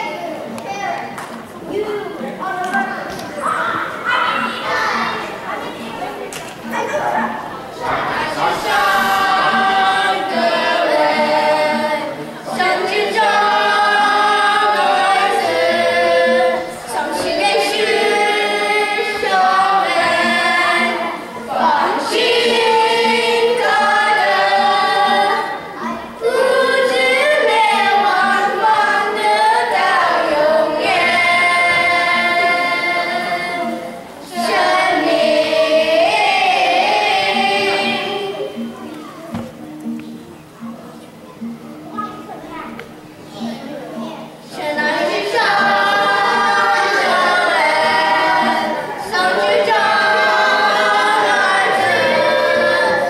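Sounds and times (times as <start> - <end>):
youth choir singing: 0.0 - 40.7, 42.9 - 53.0.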